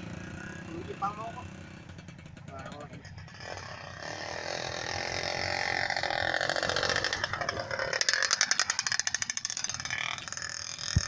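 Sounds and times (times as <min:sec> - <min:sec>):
engine running with rapid pulsing: 0:00.0 - 0:11.0.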